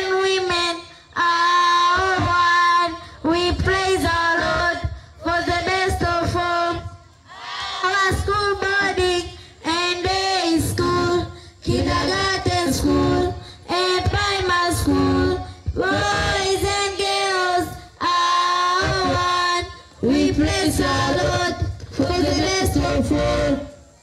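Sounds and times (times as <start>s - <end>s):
voices singing together: 1.2s - 24.0s.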